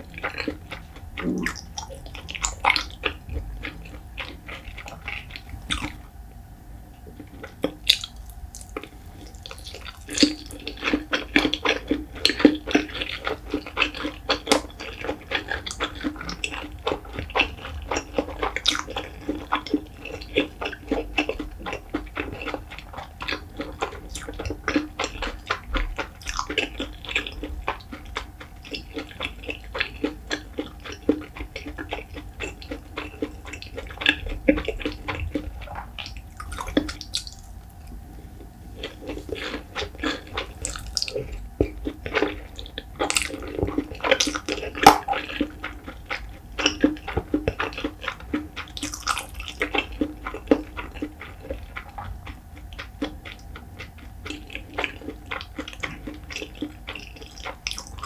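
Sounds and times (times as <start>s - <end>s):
mouth chewing rice: 0.0s - 6.3s, 6.9s - 58.0s.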